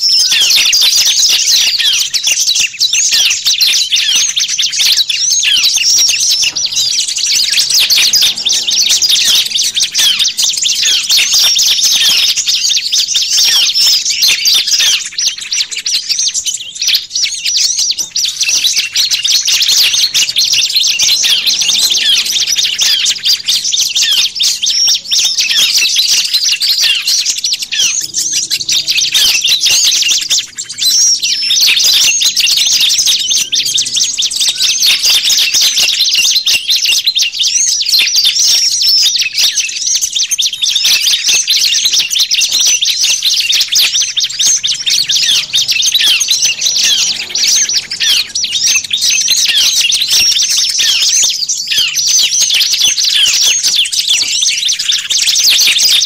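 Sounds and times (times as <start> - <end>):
songbirds chirping and twittering: 0.0 - 56.0.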